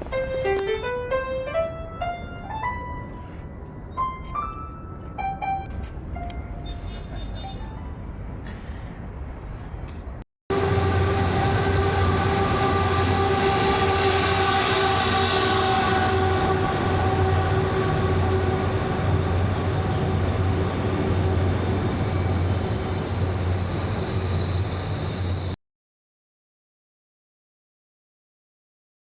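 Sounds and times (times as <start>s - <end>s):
train rumbling with whining tones: 0.0s - 25.6s.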